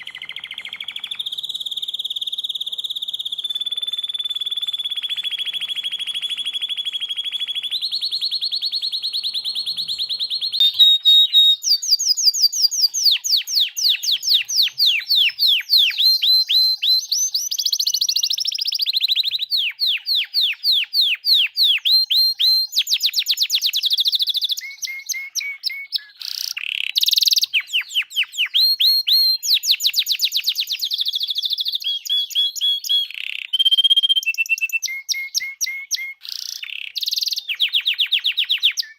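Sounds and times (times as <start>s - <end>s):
songbird trilling and whistling: 0.0s - 38.9s.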